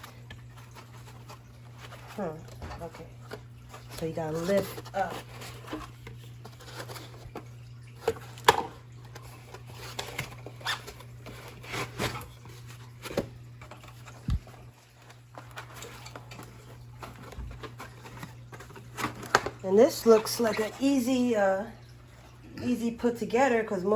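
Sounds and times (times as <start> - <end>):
packing material rustling: 0.0 - 20.8.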